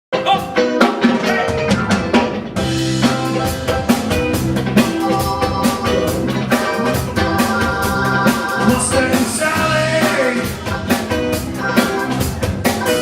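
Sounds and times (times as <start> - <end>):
bass: 0.1 - 13.0
drum kit snare and rimshot hits: 0.2 - 13.0
held chords: 0.2 - 13.0.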